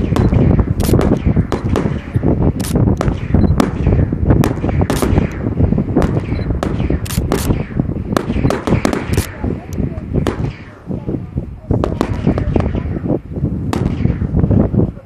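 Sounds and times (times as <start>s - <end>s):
fireworks bangs and crackles: 0.0s - 15.0s
low rumble of booms: 0.0s - 15.0s.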